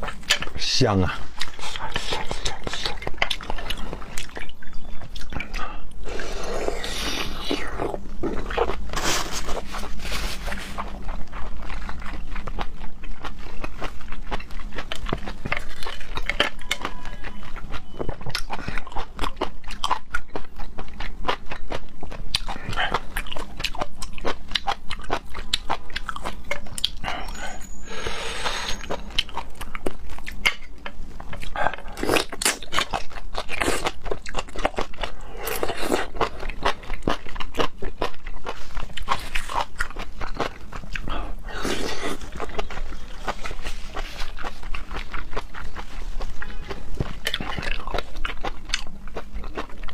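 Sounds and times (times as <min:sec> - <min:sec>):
wet chewing and smacking: 0:00.0 - 0:49.9.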